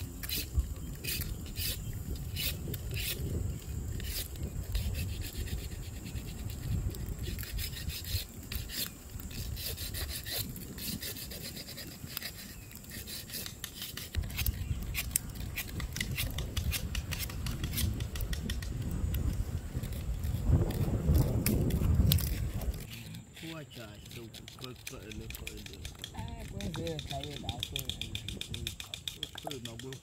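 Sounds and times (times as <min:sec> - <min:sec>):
rasping scrapes: 0:00.0 - 0:30.0.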